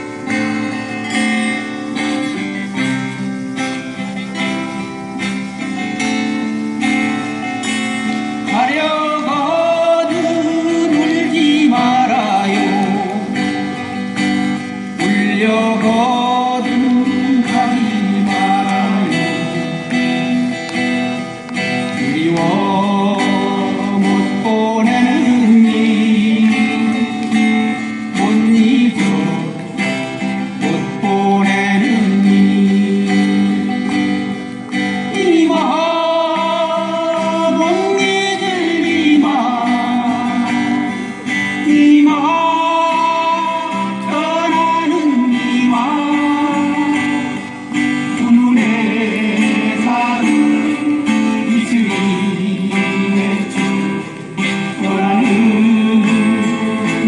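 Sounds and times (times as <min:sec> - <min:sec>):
acoustic guitars strumming: 0:00.0 - 0:57.0
person singing melody: 0:00.0 - 0:57.0.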